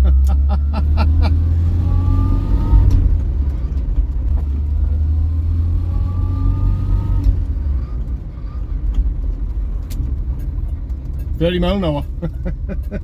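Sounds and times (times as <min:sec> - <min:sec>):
car engine accelerating: 0:00.0 - 0:13.0
faint engine whine: 0:00.0 - 0:13.0.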